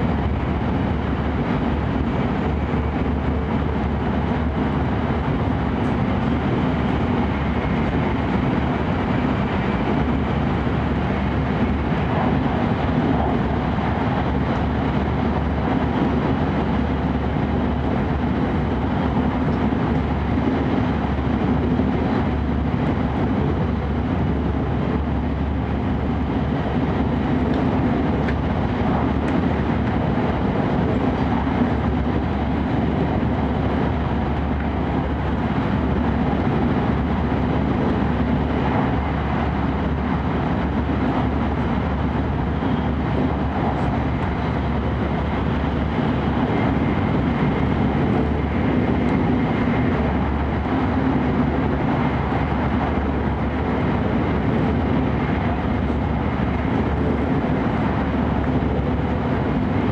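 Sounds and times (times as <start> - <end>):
train cabin running rumble: 0.0 - 59.9.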